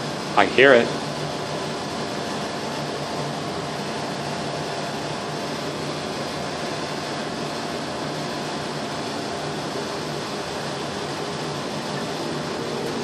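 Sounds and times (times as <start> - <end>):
elevator hum and whir: 0.0 - 13.0.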